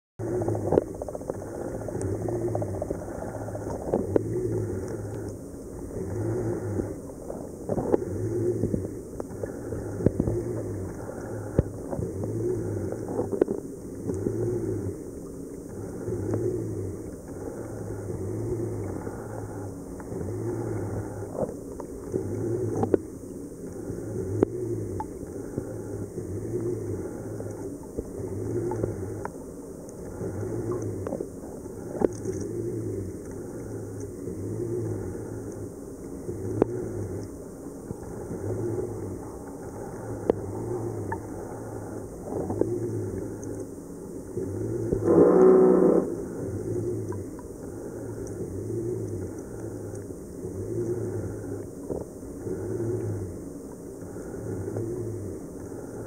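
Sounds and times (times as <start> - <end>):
aquarium pump hum: 0.2 - 56.0
faint clicks: 0.3 - 56.0.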